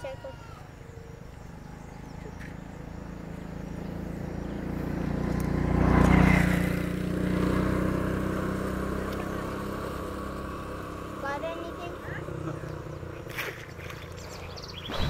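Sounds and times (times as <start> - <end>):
motorcycle engine passing by: 0.4 - 15.0.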